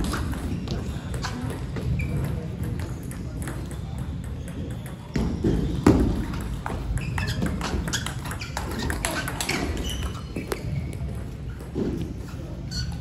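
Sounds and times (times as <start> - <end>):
ping pong ball hitting paddles: 0.0 - 12.2.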